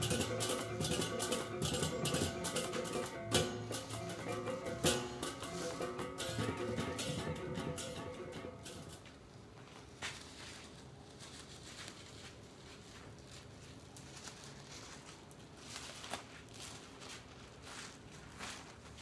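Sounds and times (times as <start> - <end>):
faint ambient hiss: 0.0 - 19.0.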